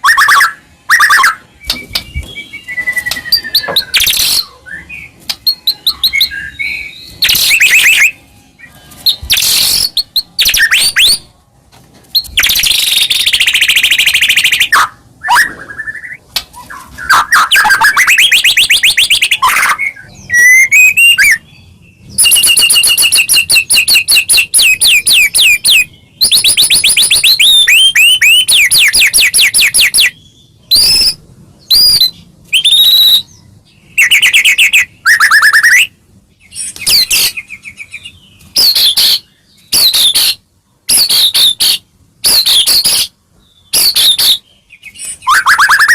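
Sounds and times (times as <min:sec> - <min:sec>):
songbird trills and whistles: 0:00.0 - 0:11.3, 0:12.1 - 0:45.9.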